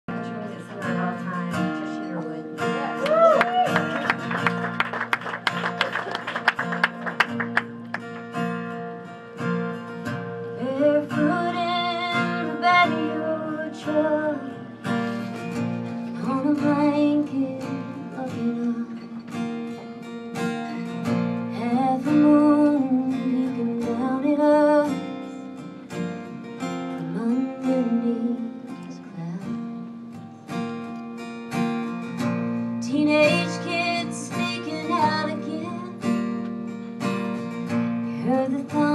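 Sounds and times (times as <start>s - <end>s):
woman singing country song: 0.1s - 4.4s, 8.3s - 30.9s, 31.5s - 38.9s
acoustic guitar strumming: 0.1s - 38.9s.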